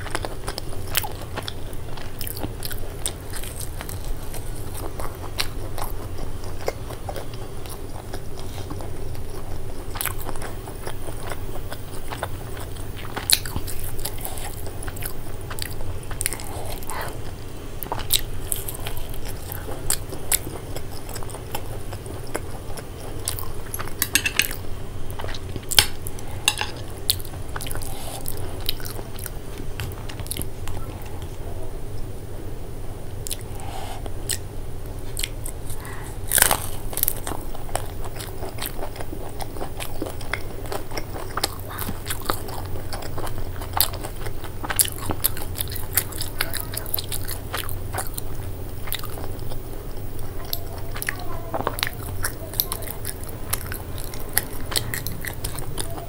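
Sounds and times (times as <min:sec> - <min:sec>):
chewing with crunches: 0:00.0 - 0:32.1, 0:33.0 - 0:56.0.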